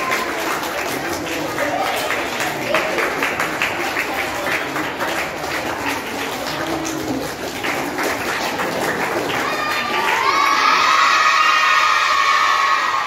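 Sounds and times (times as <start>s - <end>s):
children chattering: 0.0s - 13.0s
children clapping: 0.0s - 13.0s.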